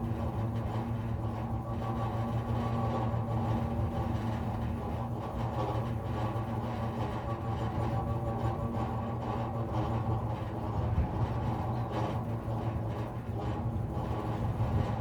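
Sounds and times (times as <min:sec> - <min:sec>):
power lines humming in wind: 0:00.0 - 0:15.0.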